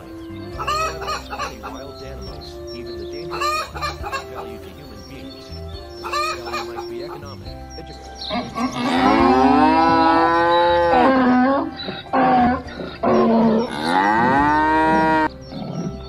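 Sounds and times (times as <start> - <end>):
donkey braying: 0.0 - 16.0.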